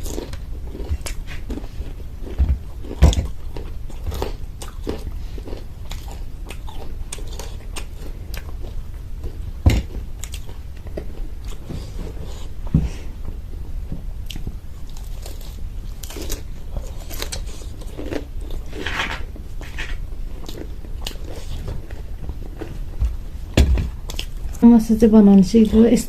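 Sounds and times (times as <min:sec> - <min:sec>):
chewing crunchy fried pastry: 0:00.0 - 0:12.5, 0:14.2 - 0:23.0, 0:24.0 - 0:24.6.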